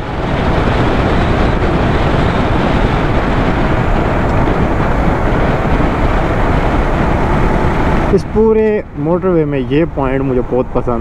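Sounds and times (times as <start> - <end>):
motorcycle engine: 0.0 - 9.9
wind rushing over microphone: 0.0 - 11.0.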